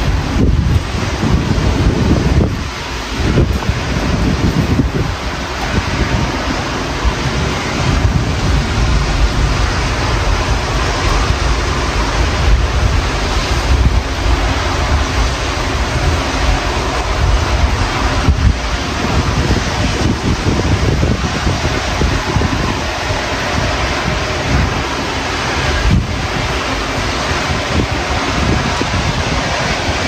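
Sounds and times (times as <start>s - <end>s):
storm wind gusting: 0.0s - 30.0s.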